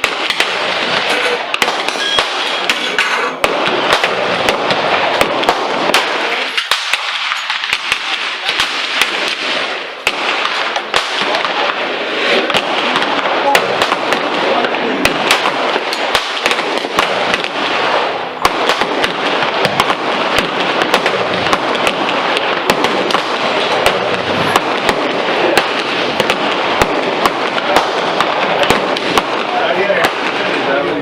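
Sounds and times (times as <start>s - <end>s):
gunshots: 0.0s - 31.0s
steady background rush: 0.0s - 31.0s.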